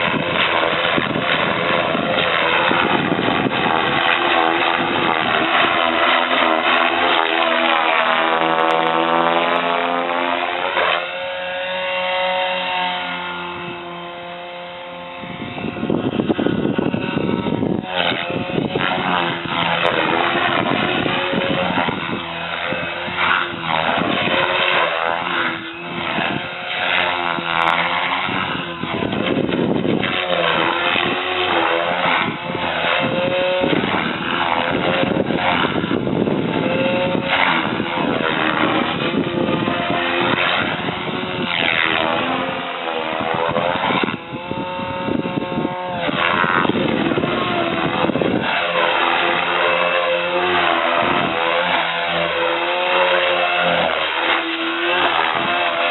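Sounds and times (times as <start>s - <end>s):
rc helicopter motor and rotors whining: 0.0s - 55.9s.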